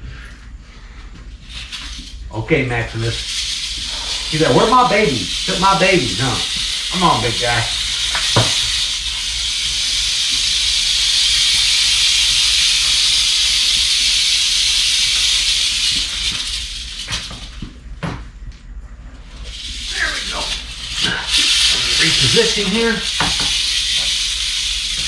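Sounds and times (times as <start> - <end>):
rattlesnake rattling high buzz: 1.3 - 18.3, 19.0 - 25.0.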